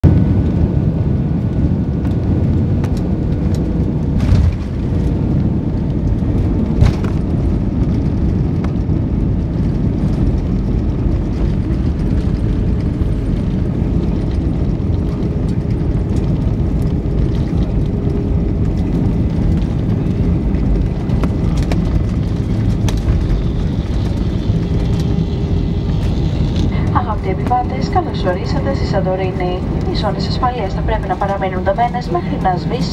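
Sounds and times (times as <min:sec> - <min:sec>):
jet engines rumbling in cabin: 0:00.0 - 0:32.9.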